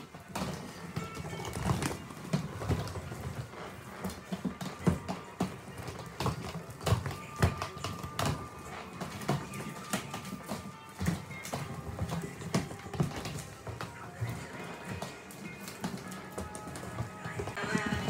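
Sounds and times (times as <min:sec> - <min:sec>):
roller skates clacking on hard floor: 0:00.0 - 0:18.0.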